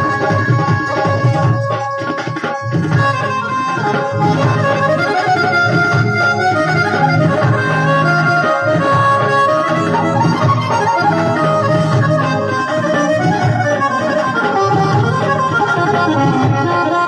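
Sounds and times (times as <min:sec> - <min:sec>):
keyboard melody: 0:00.0 - 0:17.0
tabla-like drum loop: 0:00.0 - 0:17.0.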